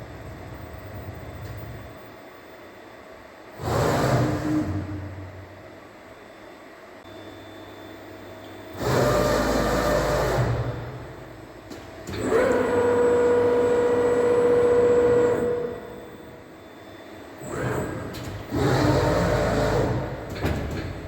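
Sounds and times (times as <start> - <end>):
loud steady machine whine: 0.0 - 21.0.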